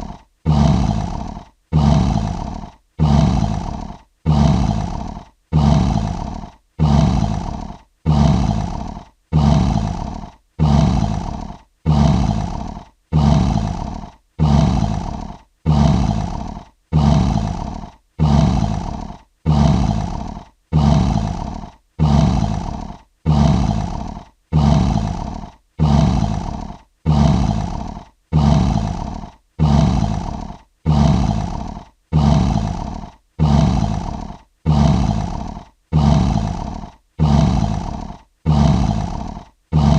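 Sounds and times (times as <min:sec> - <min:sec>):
lion roaring: 0:00.0 - 0:39.9.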